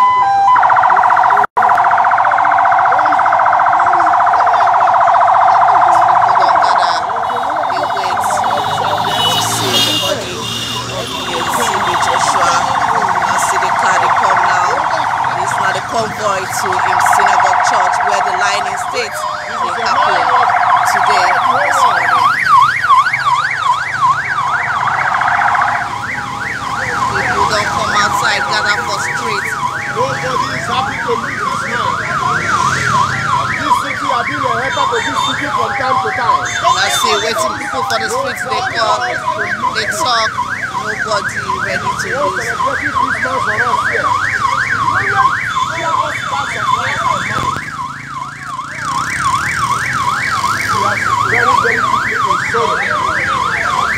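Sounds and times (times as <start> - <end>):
siren wailing: 0.0 - 53.9
siren yelping: 0.0 - 53.9.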